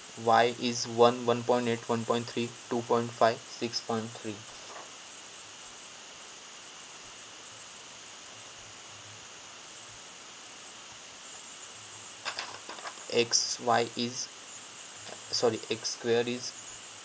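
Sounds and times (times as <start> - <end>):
recording hiss: 0.0 - 17.0.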